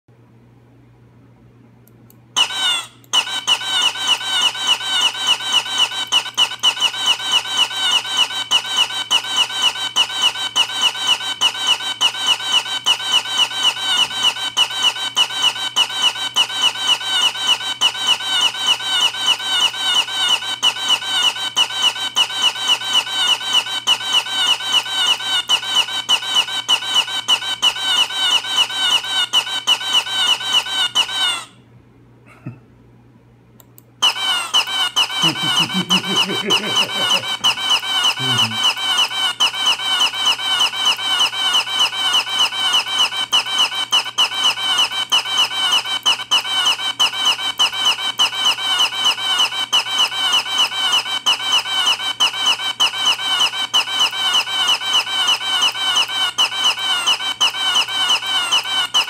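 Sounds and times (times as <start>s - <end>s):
high-pitched squeaky chirp: 2.4s - 31.6s, 34.0s - 59.0s.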